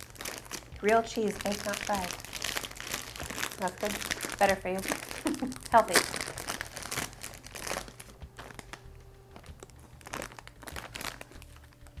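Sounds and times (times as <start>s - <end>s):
plastic snack bag crackling: 0.0s - 12.0s.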